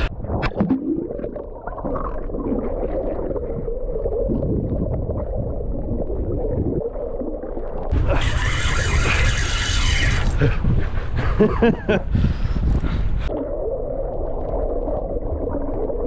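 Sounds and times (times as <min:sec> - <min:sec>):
muffled underwater gurgling rush: 0:00.0 - 0:16.0.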